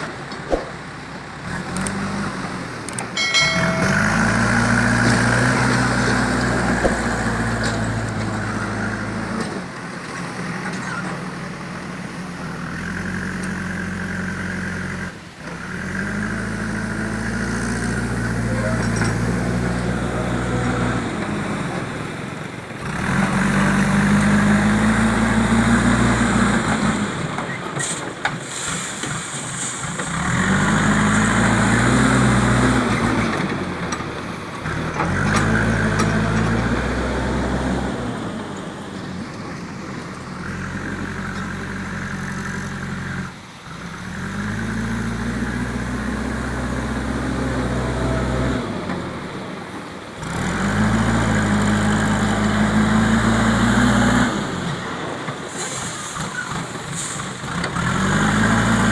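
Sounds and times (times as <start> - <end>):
diesel engine revving: 0.0 - 58.9.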